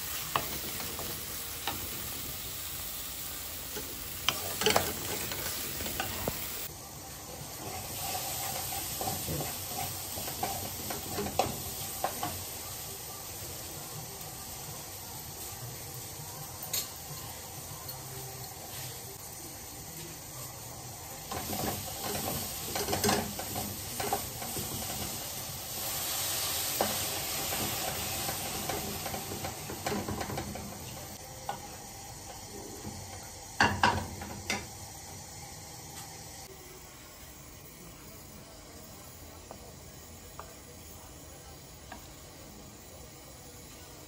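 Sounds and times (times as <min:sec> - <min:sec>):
gravy simmering and sizzling: 0:00.0 - 0:44.0.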